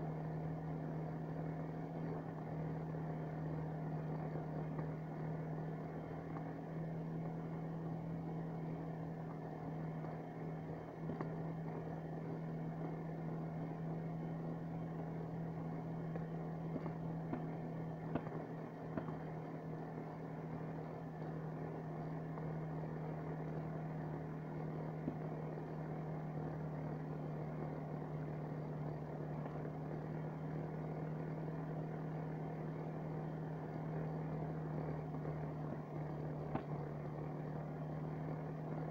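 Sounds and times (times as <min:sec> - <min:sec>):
snow vehicle engine droning: 0:00.0 - 0:38.9.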